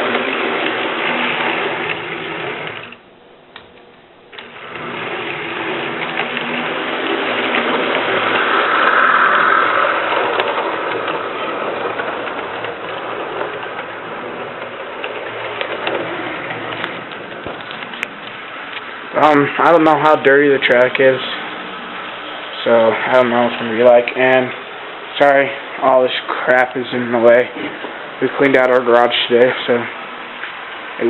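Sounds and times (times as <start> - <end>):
model train running on track: 0.0 - 3.0, 4.3 - 31.0.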